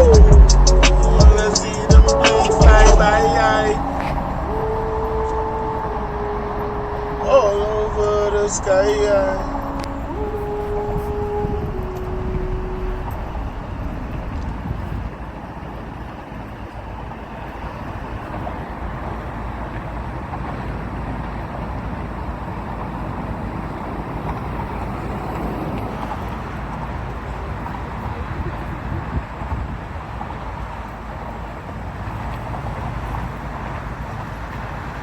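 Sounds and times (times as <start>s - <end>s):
distant engine rumble: 0.0s - 29.0s.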